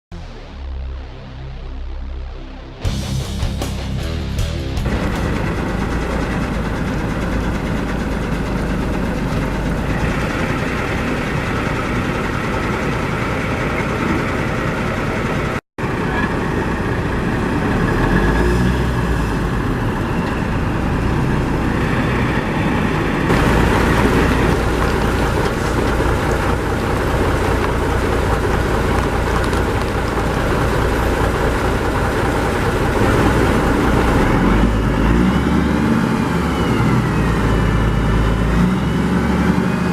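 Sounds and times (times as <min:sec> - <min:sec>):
truck diesel engine running: 0:02.8 - 0:39.9.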